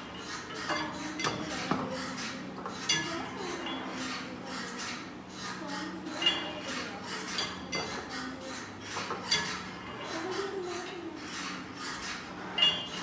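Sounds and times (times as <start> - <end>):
dishes and cutlery clinking: 0.0 - 5.0, 5.6 - 13.0.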